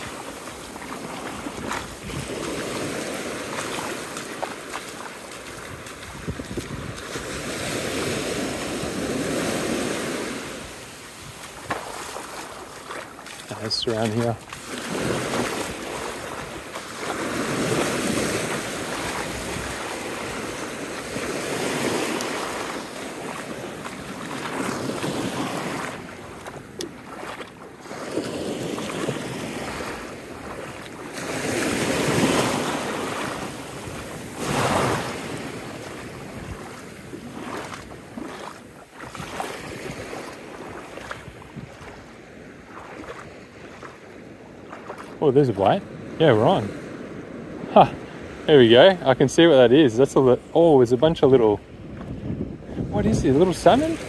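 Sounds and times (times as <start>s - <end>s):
wind buffeting microphone: 0.0s - 27.2s, 27.9s - 38.3s, 39.0s - 42.7s, 51.0s - 54.0s
small waves washing over sand: 0.0s - 54.0s.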